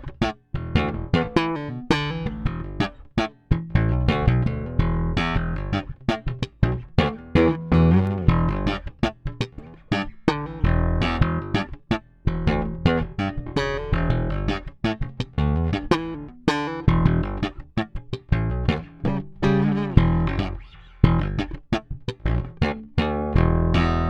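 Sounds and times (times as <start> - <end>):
bass guitar plucked notes: 0.0 - 24.0.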